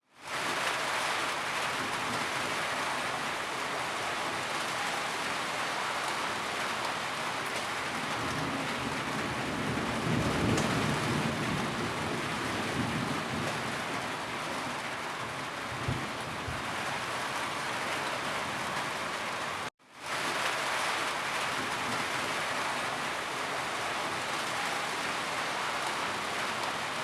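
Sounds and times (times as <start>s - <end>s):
steady rain hissing: 0.1s - 27.0s.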